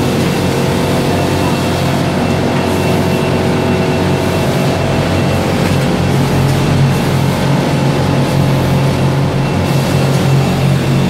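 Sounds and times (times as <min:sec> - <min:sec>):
conveyor machinery humming: 0:00.0 - 0:11.0
steady machine tones: 0:00.0 - 0:11.0.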